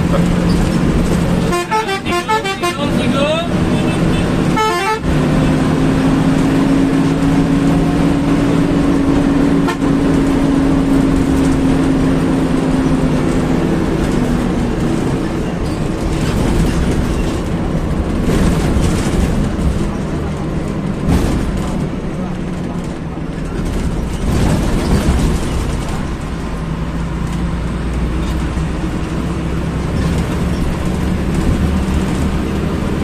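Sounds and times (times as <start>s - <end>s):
bus diesel engine droning: 0.0s - 33.0s
road noise: 0.0s - 33.0s.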